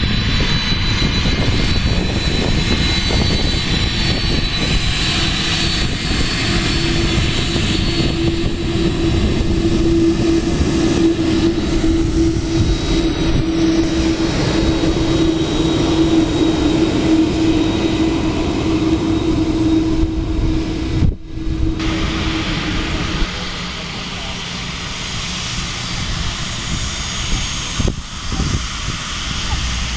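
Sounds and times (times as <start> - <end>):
airliner engines roaring: 0.0 - 29.9.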